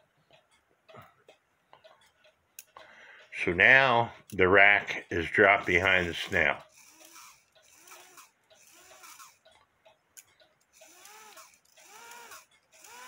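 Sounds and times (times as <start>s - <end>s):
clock ticking softly: 0.0s - 13.0s.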